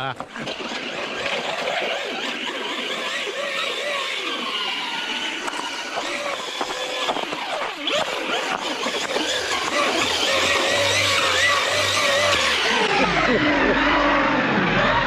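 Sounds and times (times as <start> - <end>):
electric motor whine of rc truck: 0.2 - 15.0.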